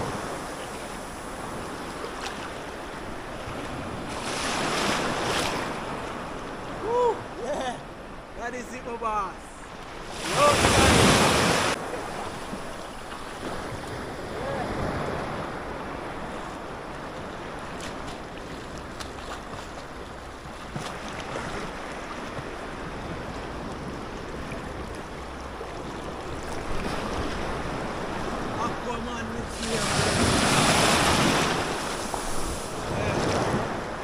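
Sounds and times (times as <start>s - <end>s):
sea waves washing on shore: 0.0s - 34.0s.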